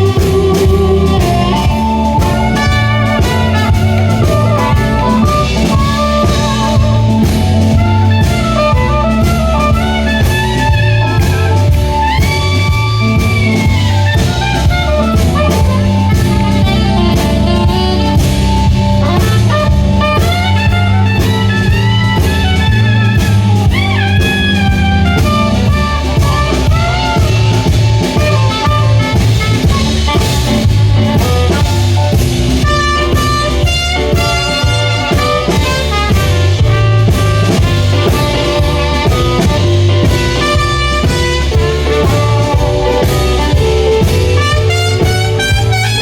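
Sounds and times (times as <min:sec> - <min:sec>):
drum kit beat: 0:00.0 - 0:46.0
steady bass line: 0:00.0 - 0:46.0
wavering lead melody: 0:00.0 - 0:46.0.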